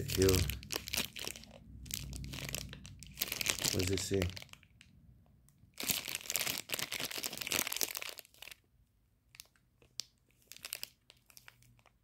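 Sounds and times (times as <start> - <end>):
plastic bag crinkling: 0.0 - 4.8, 5.8 - 8.6, 9.3 - 12.0.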